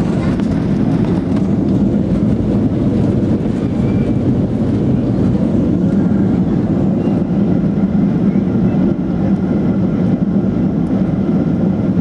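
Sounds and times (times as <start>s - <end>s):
airplane cabin rumble on landing: 0.0s - 12.0s.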